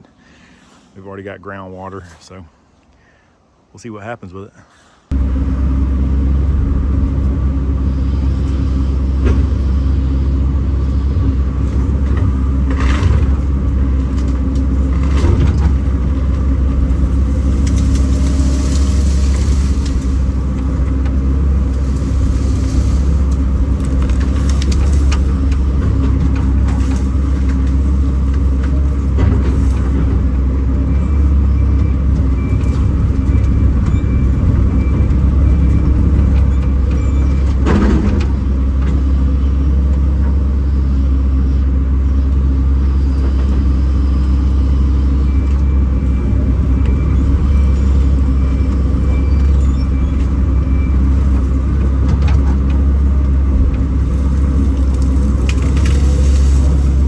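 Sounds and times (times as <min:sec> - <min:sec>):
excavator diesel hum: 0:04.4 - 0:57.0.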